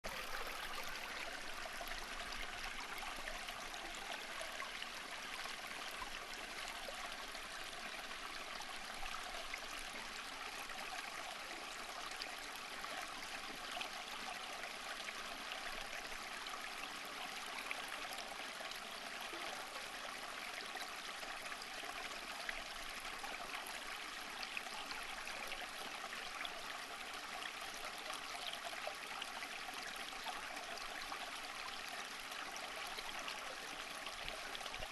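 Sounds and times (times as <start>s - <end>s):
stream water babbling: 0.0s - 34.9s.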